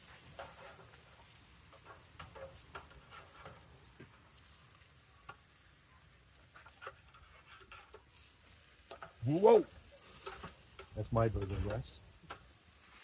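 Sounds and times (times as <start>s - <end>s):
patties sizzling on a grill: 0.0s - 13.0s.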